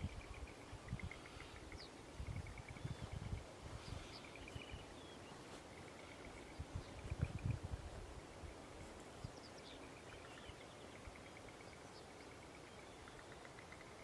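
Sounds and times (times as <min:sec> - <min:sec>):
faint bird calls: 0:00.0 - 0:07.6, 0:08.8 - 0:14.0.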